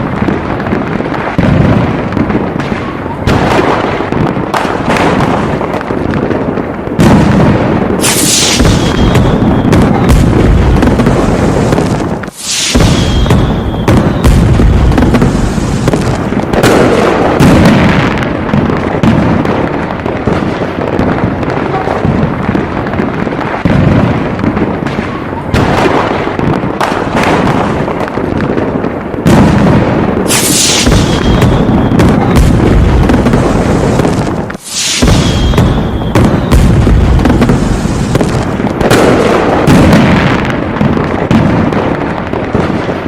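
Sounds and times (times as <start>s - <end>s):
fireworks booming and crackling: 0.0s - 43.0s.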